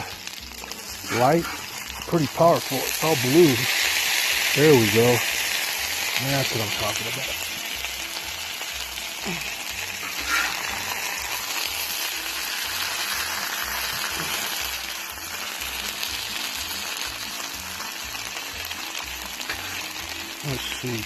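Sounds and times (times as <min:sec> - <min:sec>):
bacon sizzling: 0:00.0 - 0:21.0.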